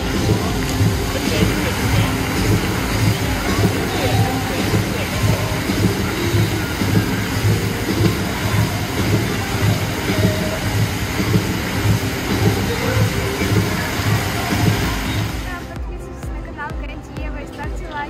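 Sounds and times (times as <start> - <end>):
fountain water rushing: 0.0 - 15.9
music with low beat: 0.0 - 18.0.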